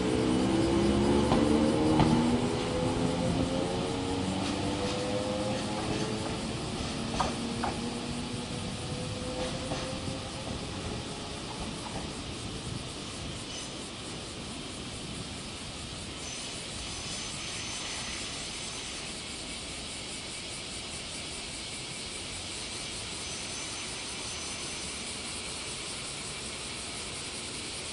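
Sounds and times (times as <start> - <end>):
distant trains rumbling: 0.0 - 27.9.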